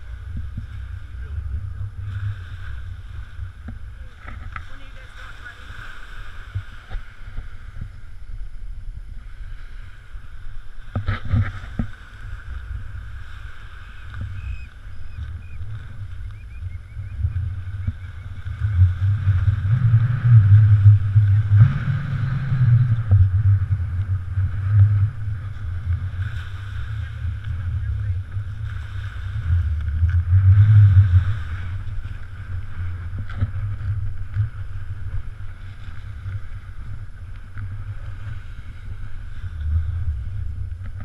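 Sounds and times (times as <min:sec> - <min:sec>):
surf hissing on beach: 0:00.0 - 0:41.0
wind buffeting microphone: 0:00.0 - 0:41.0.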